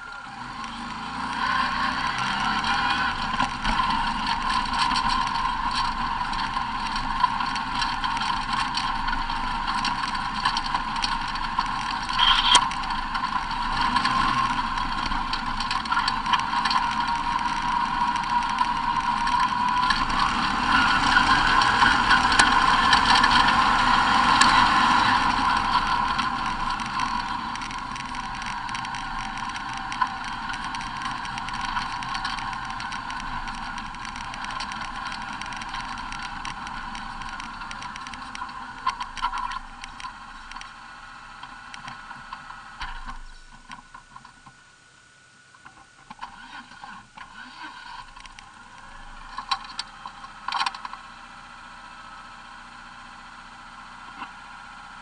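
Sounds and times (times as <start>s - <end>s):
sharp clicks and knocks: 2.1s - 40.8s, 45.6s - 51.0s.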